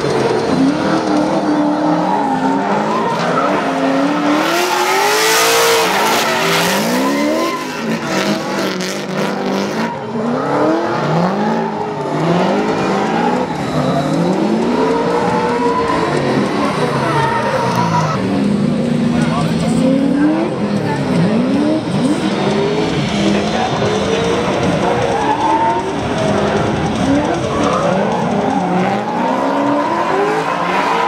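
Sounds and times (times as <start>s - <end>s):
car engines revving: 0.0s - 31.0s
tyres squealing and skidding: 0.0s - 31.0s.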